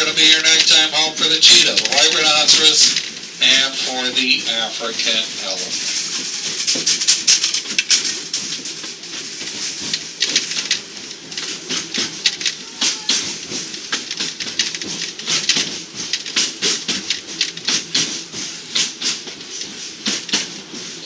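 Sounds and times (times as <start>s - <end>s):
steady rushing hiss: 0.0s - 21.0s
train rattling on track: 0.0s - 21.0s.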